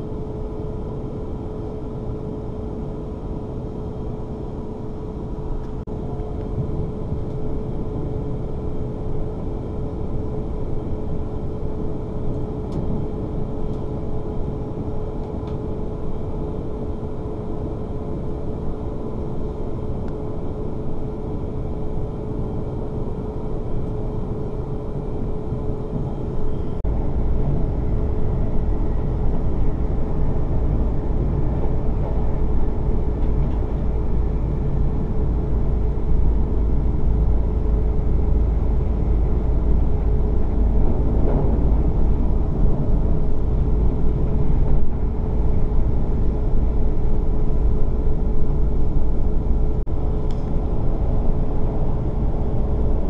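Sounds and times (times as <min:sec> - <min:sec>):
steady hum: 0:00.0 - 0:53.0
train cabin rumble: 0:04.4 - 0:19.7, 0:20.4 - 0:53.0.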